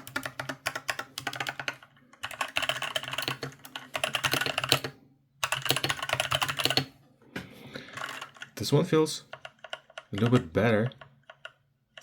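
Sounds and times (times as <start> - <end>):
fast keyboard typing: 0.0 - 6.9, 7.8 - 12.0.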